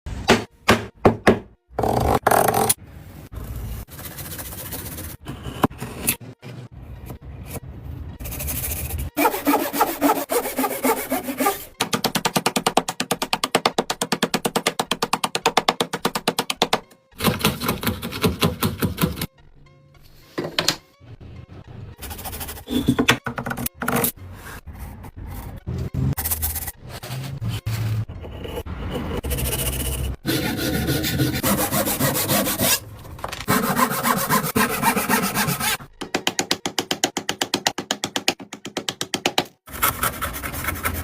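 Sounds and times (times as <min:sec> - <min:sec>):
background music: 0:06.7 - 0:41.0.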